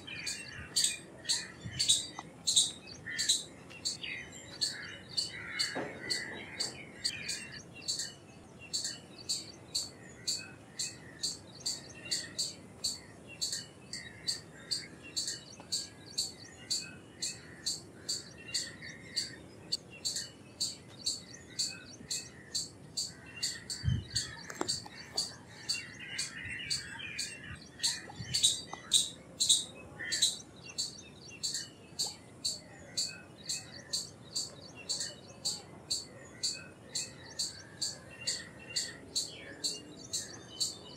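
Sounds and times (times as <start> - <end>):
squirrel chirping: 0.0 - 40.8
birds twittering: 0.0 - 40.9.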